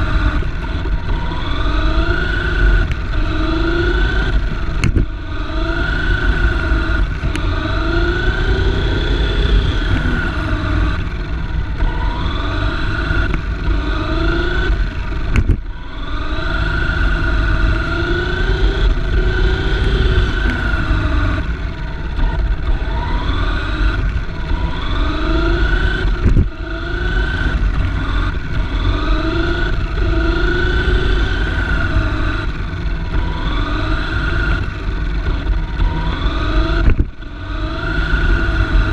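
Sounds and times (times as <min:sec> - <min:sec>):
steady low rumble: 0:00.0 - 0:37.5
electric motor whining: 0:00.0 - 0:38.9.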